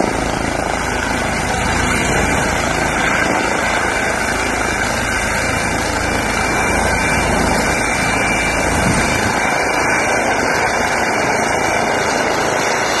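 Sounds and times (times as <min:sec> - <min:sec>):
helicopter rotor rushing noise: 0:00.0 - 0:13.0
turbine whine: 0:00.0 - 0:13.0.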